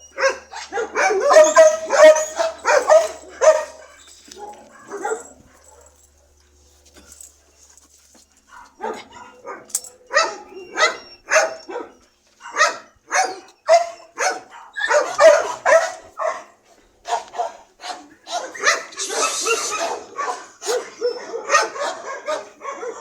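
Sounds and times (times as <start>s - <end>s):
dog barking: 0.2s - 6.4s, 8.5s - 23.0s.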